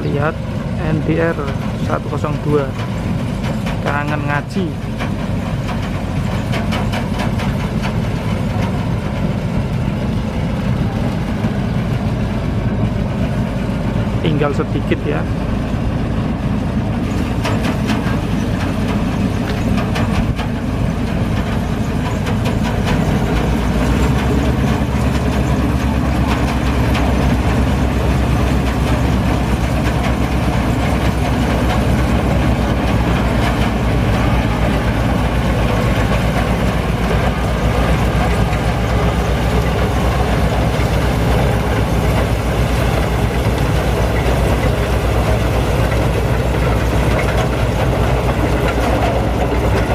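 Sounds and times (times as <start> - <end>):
combine harvester engine droning: 0.0 - 49.9.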